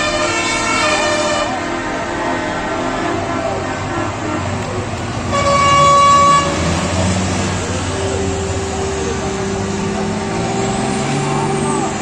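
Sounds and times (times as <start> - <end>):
truck engines running: 0.0 - 12.0
truck horn blast: 0.0 - 12.0.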